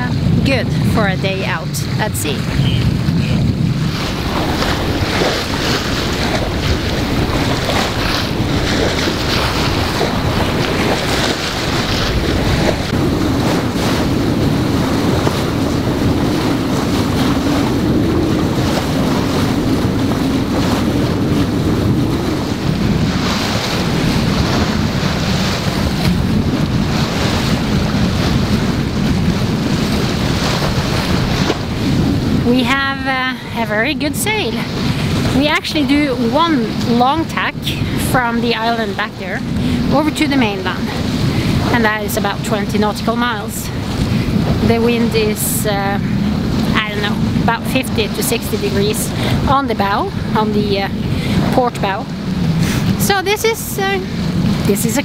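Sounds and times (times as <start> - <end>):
water splashing along hull: 0.0 - 55.0
wind buffeting microphone: 0.0 - 55.0.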